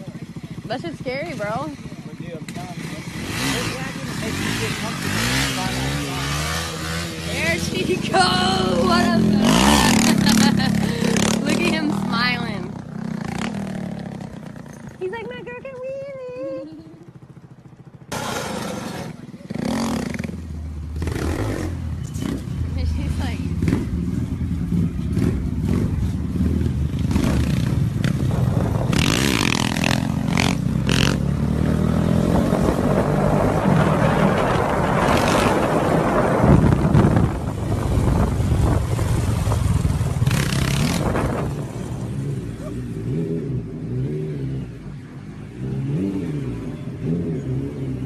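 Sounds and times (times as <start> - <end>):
motorcycle engine revving: 0.0 - 15.8, 16.7 - 48.0.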